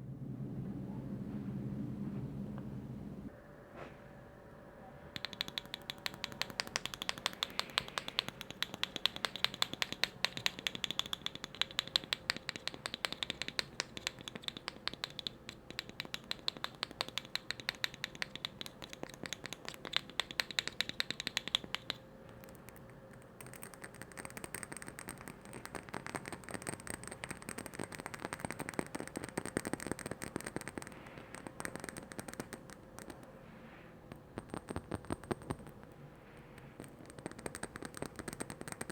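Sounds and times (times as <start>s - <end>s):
rapid tapping on hard objects: 5.2s - 33.2s, 34.1s - 35.9s, 36.8s - 38.9s.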